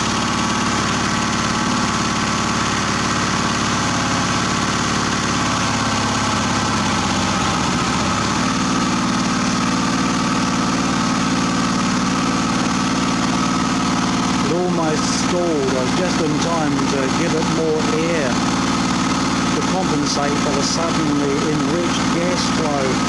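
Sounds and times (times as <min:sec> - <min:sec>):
generator engine running unevenly: 0:00.0 - 0:23.0.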